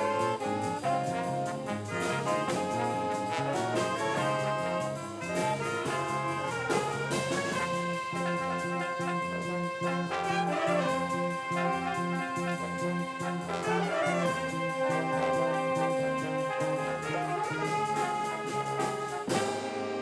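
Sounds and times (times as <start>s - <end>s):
jazzy brass band: 0.0s - 20.0s
steady drum beat: 0.0s - 20.0s.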